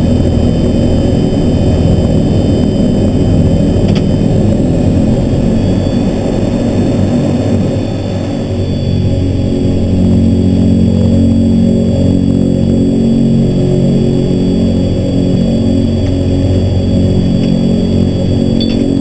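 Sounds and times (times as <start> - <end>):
high steady engine whines: 0.0 - 19.0
turboprop propeller drone: 0.0 - 19.0.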